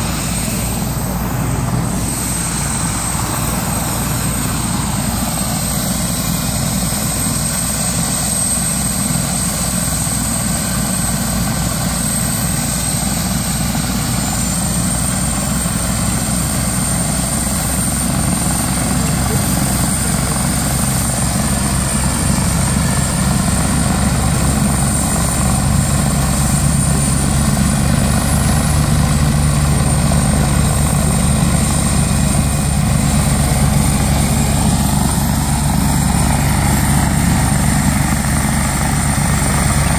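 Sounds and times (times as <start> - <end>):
helicopter rotor beat: 0.0 - 39.9
high turbine whine: 0.0 - 39.9.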